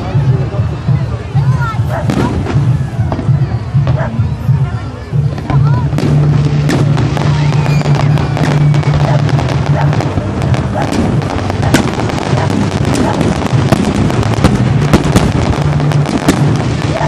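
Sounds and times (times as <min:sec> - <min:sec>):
fireworks bangs and crackles: 0:00.0 - 0:17.0
steady low drone: 0:00.0 - 0:17.0.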